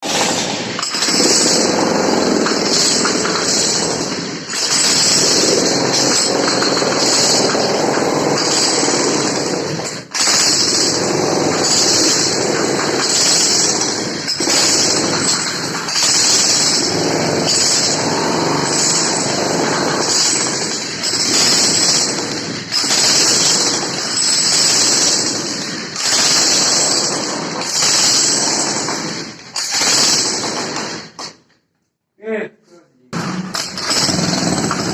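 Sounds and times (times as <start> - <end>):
jackhammer hammering: 0.0 - 31.5, 33.1 - 34.9.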